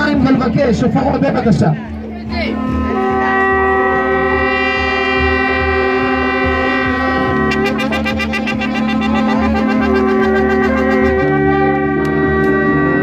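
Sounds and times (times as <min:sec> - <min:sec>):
ram's horns blowing long notes: 0:02.3 - 0:13.0
rapid quavering horn blast: 0:02.4 - 0:13.0.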